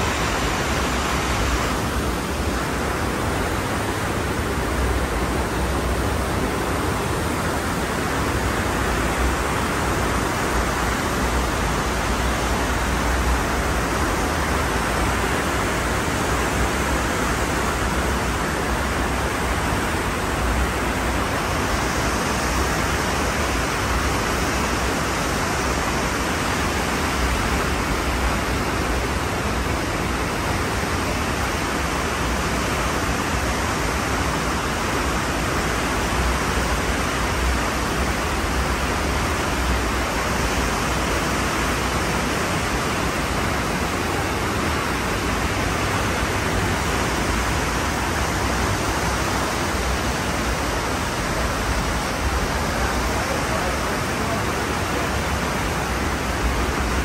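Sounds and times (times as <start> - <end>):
ocean surf rushing: 0.0 - 57.0.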